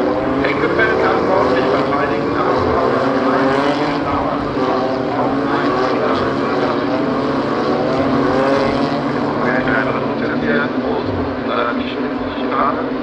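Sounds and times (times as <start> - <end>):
race car engines accelerating: 0.0 - 13.0.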